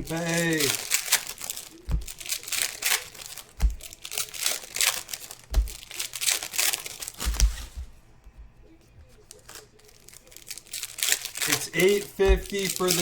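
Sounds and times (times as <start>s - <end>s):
plastic wrapping crinkling and tearing: 0.0s - 8.1s, 9.0s - 13.0s.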